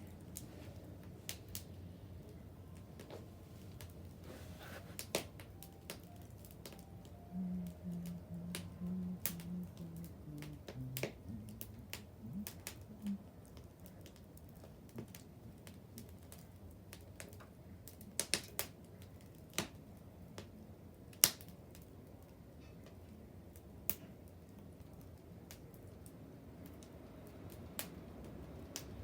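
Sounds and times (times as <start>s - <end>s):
bonfire pops and snaps: 0.0s - 2.4s, 3.0s - 6.9s, 8.5s - 29.0s.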